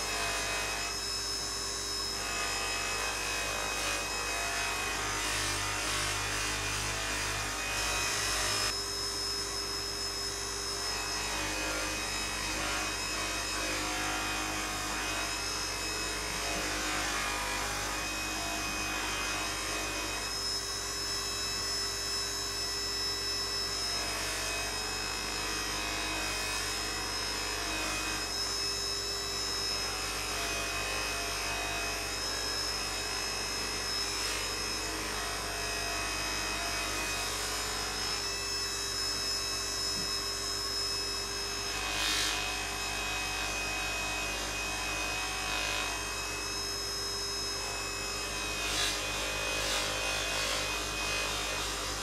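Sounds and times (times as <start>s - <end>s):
polishing motor running: 0.0s - 52.0s.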